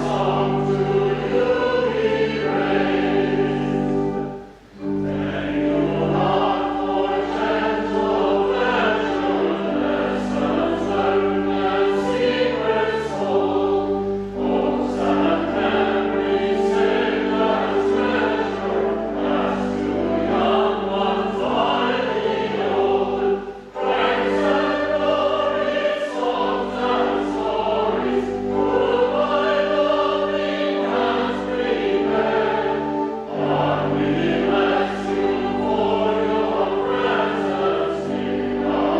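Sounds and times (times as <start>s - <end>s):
choir singing a hymn: 0.0s - 38.9s
instrumental accompaniment: 0.0s - 38.9s.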